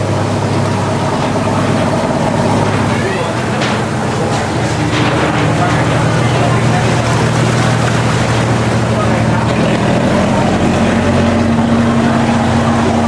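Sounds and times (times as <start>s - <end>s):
truck engine running: 0.0s - 13.0s
water washing noise: 0.0s - 13.0s.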